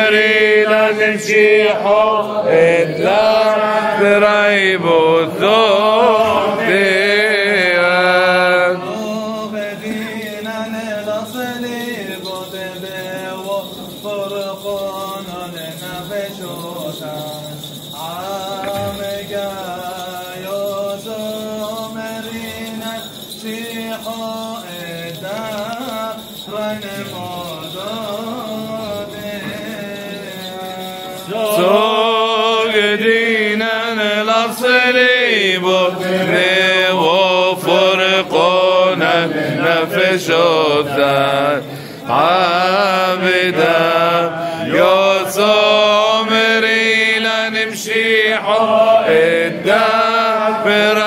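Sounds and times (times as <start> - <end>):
men chanting: 0.0 - 51.0.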